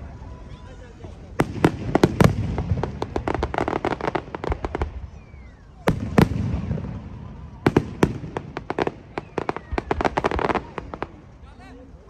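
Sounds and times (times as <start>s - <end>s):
fireworks bangs: 0.9s - 11.4s.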